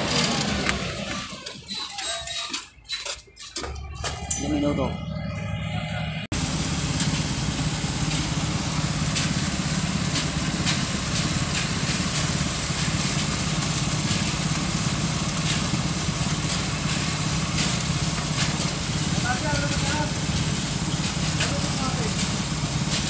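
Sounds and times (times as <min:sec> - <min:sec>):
diesel truck engine humming: 0:00.0 - 0:23.0.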